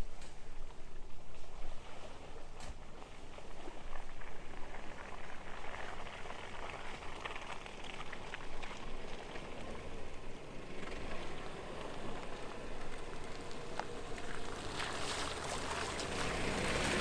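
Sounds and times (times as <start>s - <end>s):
off-road vehicle engine rumble: 0.0s - 17.0s
tyres crackling on rough ground: 2.8s - 17.0s.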